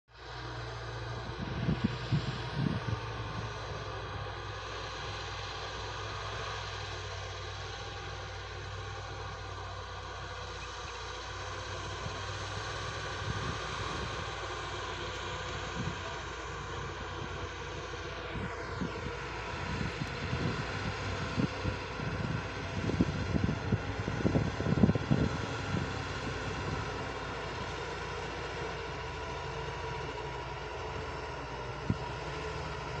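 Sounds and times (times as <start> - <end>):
diesel trucks and excavators running: 0.1 - 33.0.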